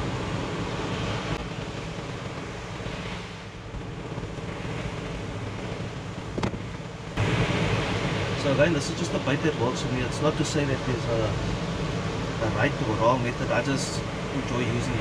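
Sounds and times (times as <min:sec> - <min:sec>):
beach surf: 0:00.0 - 0:15.0
wind on microphone: 0:00.0 - 0:15.0.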